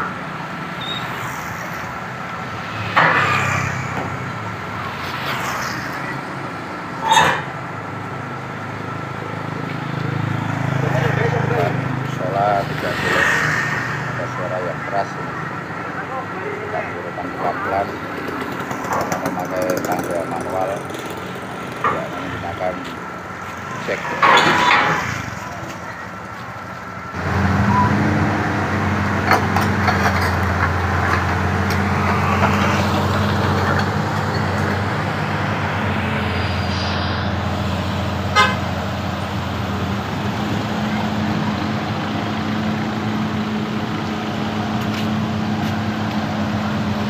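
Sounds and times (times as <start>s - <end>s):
diesel engine humming: 0.0s - 47.0s.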